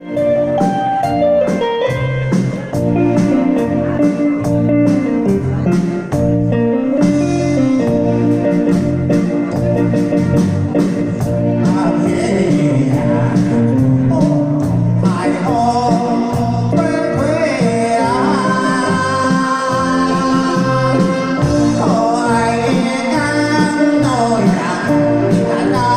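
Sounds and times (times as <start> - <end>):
bass and guitar over a beat: 0.0 - 25.9.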